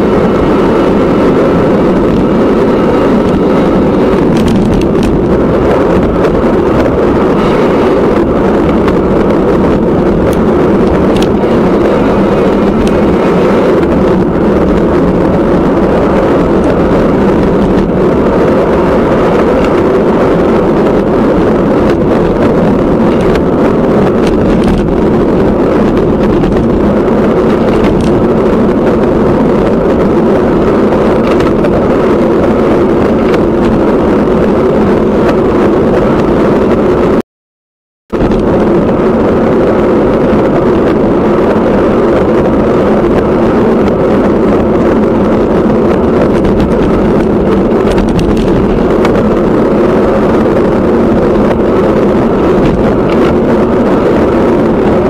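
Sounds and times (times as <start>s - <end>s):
wind buffeting microphone: 0.0s - 37.2s, 38.1s - 55.0s.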